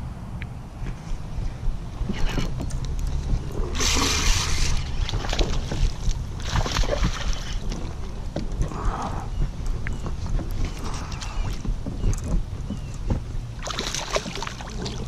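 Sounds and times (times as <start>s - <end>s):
wind buffeting microphone: 0.0s - 15.0s
water splashing around kayak: 1.9s - 15.0s.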